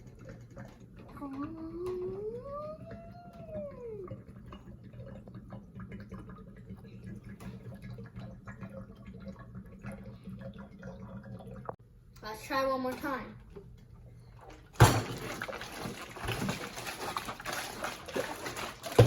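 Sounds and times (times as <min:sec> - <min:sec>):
water gurgling and dripping: 0:00.0 - 0:11.8, 0:13.4 - 0:19.0.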